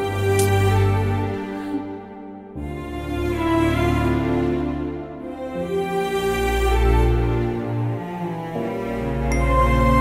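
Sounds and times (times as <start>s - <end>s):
slow film score music: 0.0s - 10.0s.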